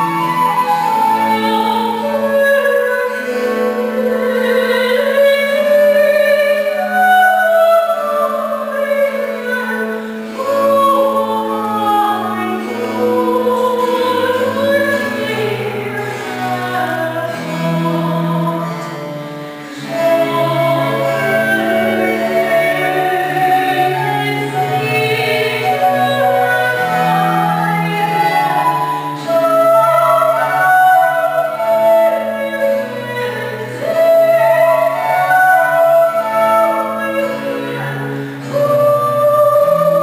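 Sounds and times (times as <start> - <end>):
bowed bass string instrument: 0.0 - 40.0
soprano singing: 0.0 - 40.0
violin: 0.0 - 40.0.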